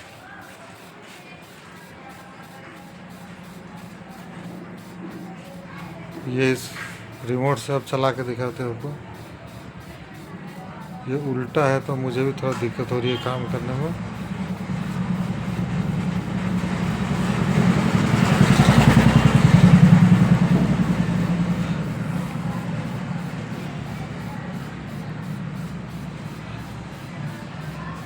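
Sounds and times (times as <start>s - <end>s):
vehicle engine passing by: 2.4s - 28.0s.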